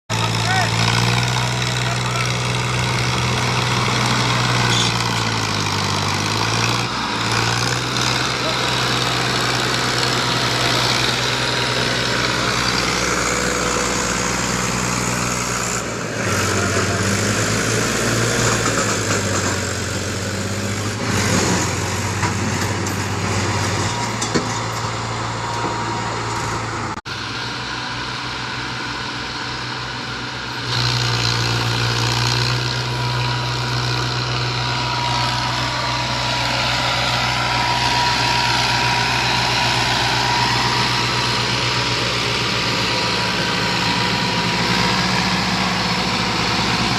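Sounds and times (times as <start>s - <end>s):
diesel tractor engine under load: 0.1s - 46.9s.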